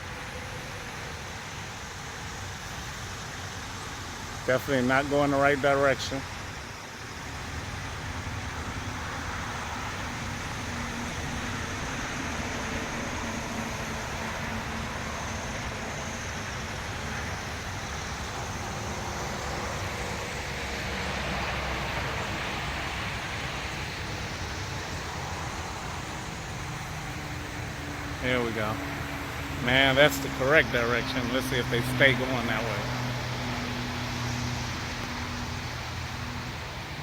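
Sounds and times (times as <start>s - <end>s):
road traffic passing: 0.0s - 37.0s.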